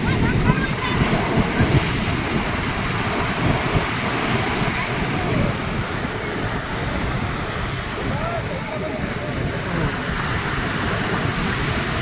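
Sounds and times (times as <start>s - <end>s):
sea waves breaking on shore: 0.0s - 12.0s
wind buffeting microphone: 0.0s - 12.0s.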